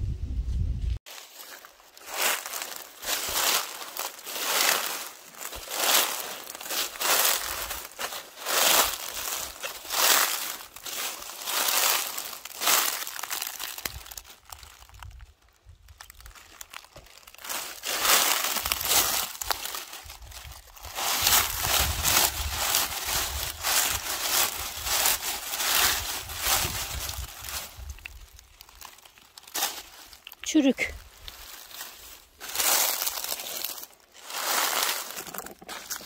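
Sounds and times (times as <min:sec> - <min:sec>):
footsteps crunching through dry leaves: 0:01.0 - 0:36.0
hands raking through leaves: 0:01.1 - 0:14.9, 0:16.2 - 0:36.0.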